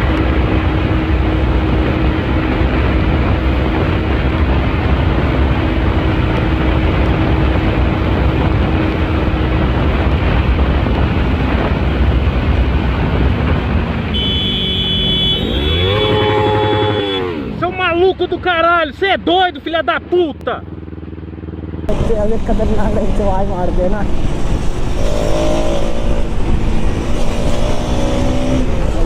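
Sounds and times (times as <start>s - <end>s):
motorcycle engine: 0.0s - 18.1s, 20.4s - 29.0s
road and wind noise: 0.0s - 29.0s.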